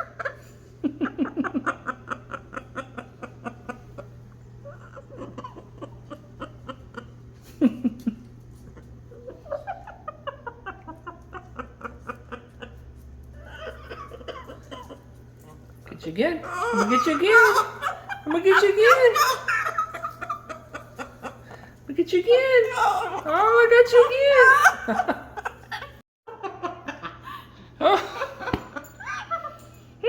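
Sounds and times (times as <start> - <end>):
parrot laughing: 0.0 - 27.2.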